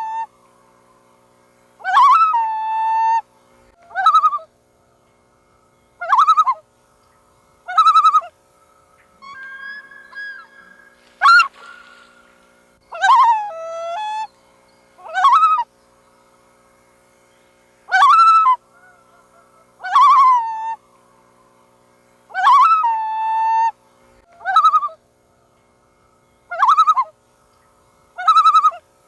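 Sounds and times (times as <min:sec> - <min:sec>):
loons calling: 0:00.0 - 0:29.0.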